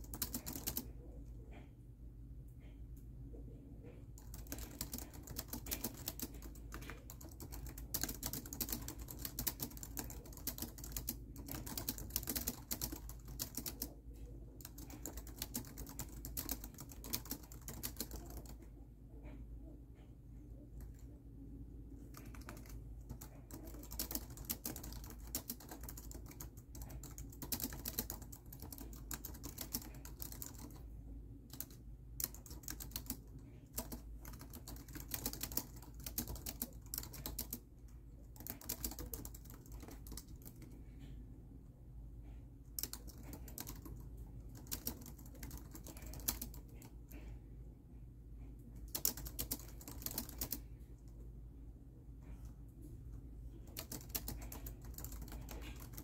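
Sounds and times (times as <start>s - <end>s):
laptop keyboard typing: 0.0s - 1.7s, 3.8s - 19.4s, 22.0s - 41.2s, 42.7s - 47.3s, 48.8s - 50.8s, 53.6s - 56.0s.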